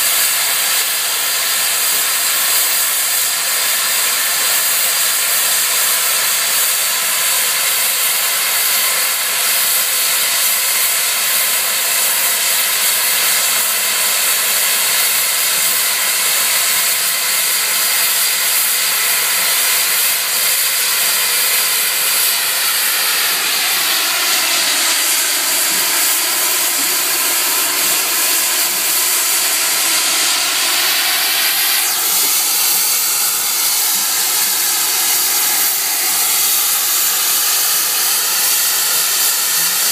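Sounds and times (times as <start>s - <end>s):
hiss of escaping steam: 0.0s - 39.9s.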